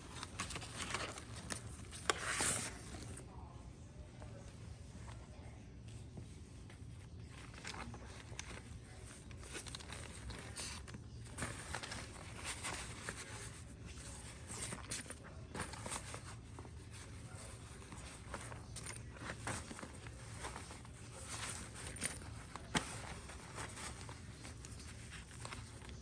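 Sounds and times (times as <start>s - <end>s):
rustling and tapping of handling: 0.0s - 3.3s, 4.2s - 26.0s.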